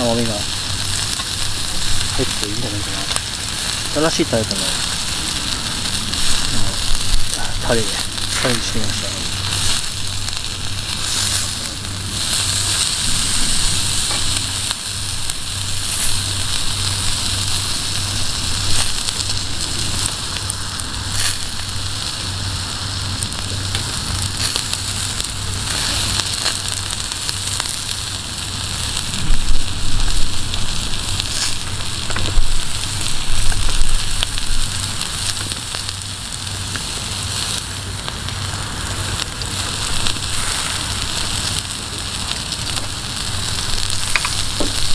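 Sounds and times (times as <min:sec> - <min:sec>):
campfire crackling: 0:00.0 - 0:44.9
skewers sizzling: 0:00.0 - 0:44.9.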